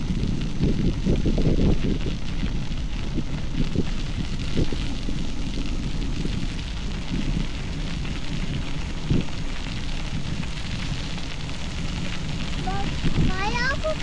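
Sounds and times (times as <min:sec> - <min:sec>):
bicycle tyres crunching on gravel: 0:00.0 - 0:14.0
wind rumbling on microphone: 0:00.0 - 0:14.0.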